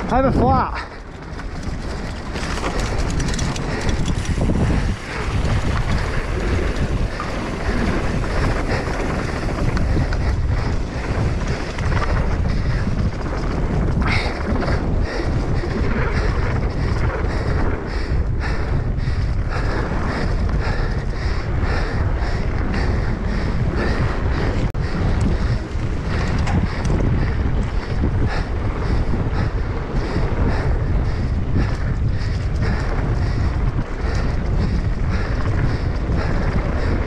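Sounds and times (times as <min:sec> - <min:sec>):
bike rattling: 0:00.0 - 0:37.0
wind buffeting microphone: 0:00.0 - 0:37.0.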